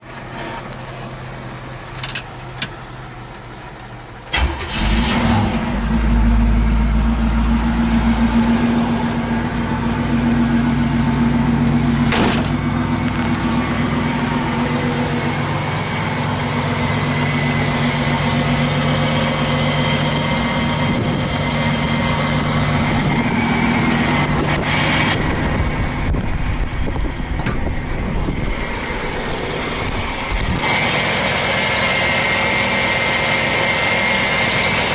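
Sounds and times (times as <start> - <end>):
car engine starting and idling: 0.1 - 34.9.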